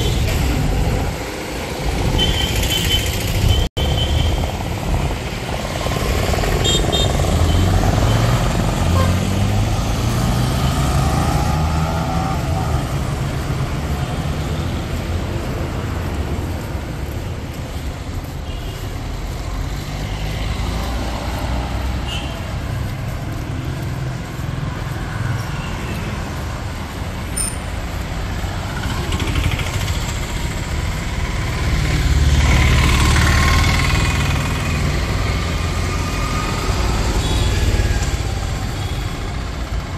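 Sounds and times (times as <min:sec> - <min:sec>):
auto-rickshaw engine: 0:00.0 - 0:39.9
road traffic passing: 0:00.0 - 0:39.9.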